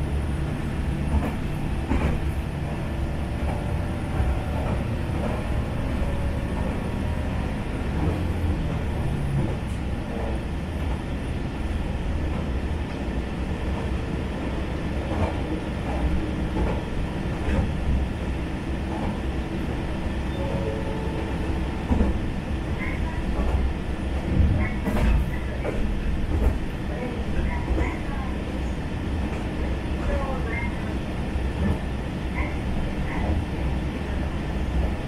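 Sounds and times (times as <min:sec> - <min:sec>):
diesel railcar rumble: 0:00.0 - 0:35.0.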